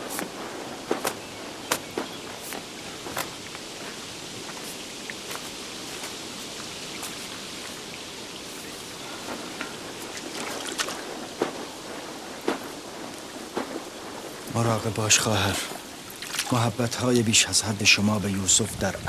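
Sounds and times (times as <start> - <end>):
footsteps on rocky ground: 0.0 - 16.6
stream water trickling: 0.0 - 17.8.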